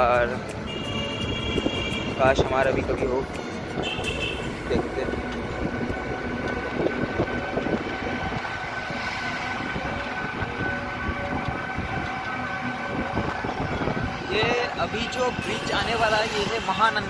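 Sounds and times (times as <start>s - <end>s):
vehicle rattling: 0.0s - 17.0s.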